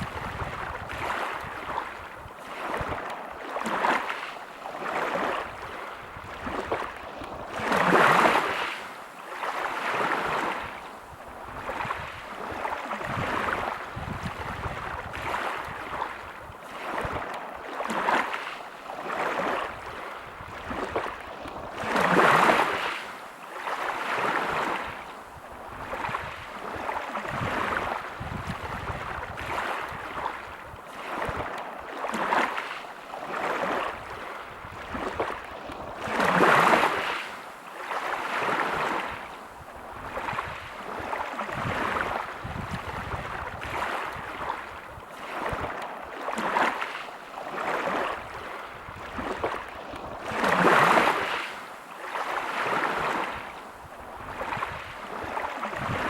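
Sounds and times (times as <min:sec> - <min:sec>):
waves breaking on pebble beach: 0:00.0 - 0:56.0.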